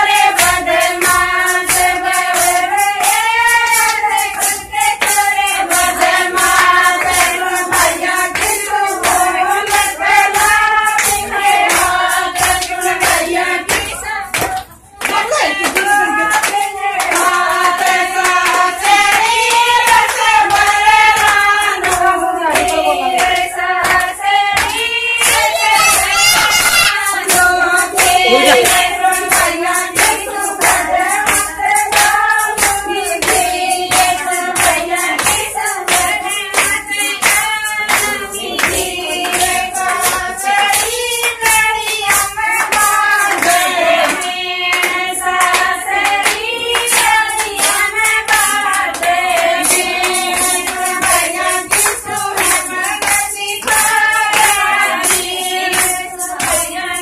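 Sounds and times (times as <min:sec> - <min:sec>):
hand-clapping: 0:00.0 - 0:57.0
women singing folk song: 0:00.0 - 0:57.0.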